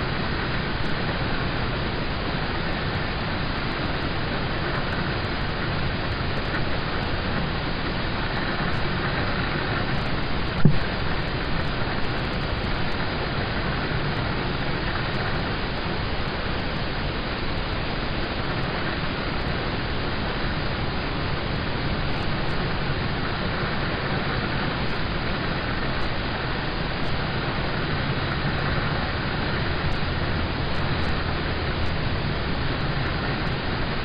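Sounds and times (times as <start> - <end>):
rain falling on a car: 0.1 - 34.0.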